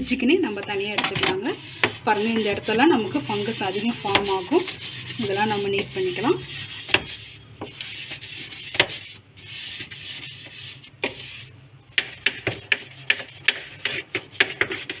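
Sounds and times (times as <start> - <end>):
brush scrubbing: 0.3 - 15.0.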